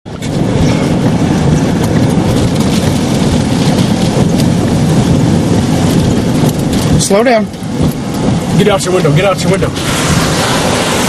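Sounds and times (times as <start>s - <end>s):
strong wind buffeting a vehicle: 0.0s - 11.0s.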